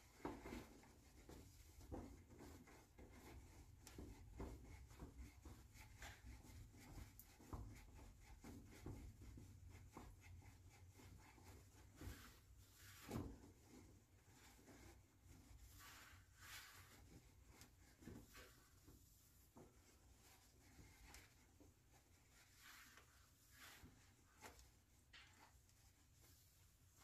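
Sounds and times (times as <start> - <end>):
cloth rubbing on metal canister: 0.0 - 27.0.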